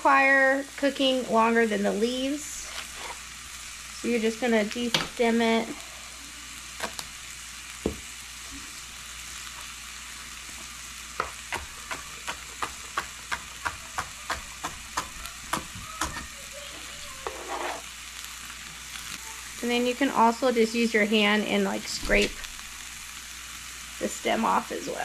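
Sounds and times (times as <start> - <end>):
peppers and onions sizzling: 0.0 - 25.0.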